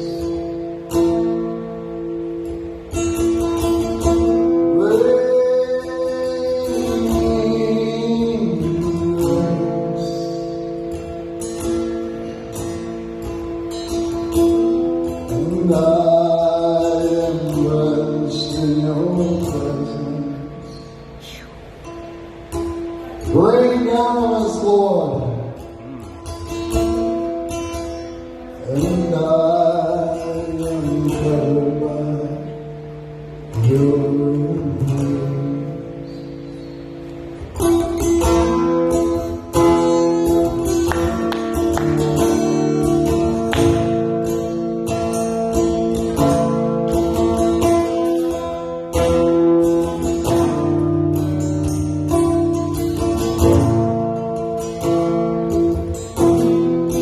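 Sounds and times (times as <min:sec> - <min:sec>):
slow worship music: 0:00.0 - 0:57.0.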